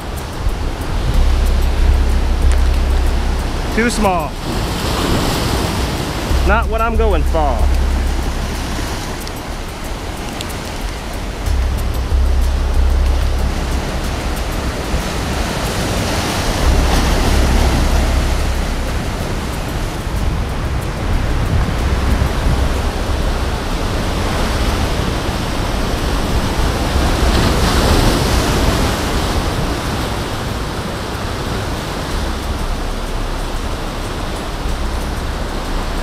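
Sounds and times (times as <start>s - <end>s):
ocean surf breaking over rocks: 0.0s - 36.0s
wind rumbling on microphone: 0.0s - 36.0s.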